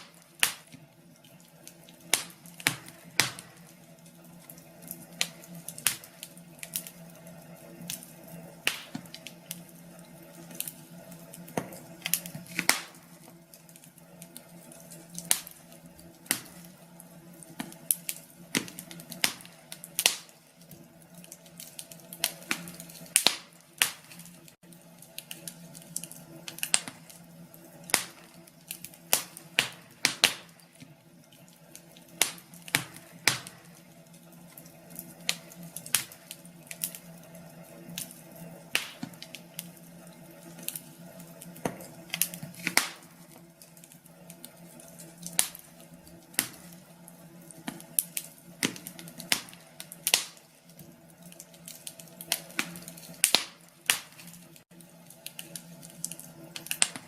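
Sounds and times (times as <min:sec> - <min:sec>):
fire crackling in a fireplace: 0:00.0 - 0:57.0.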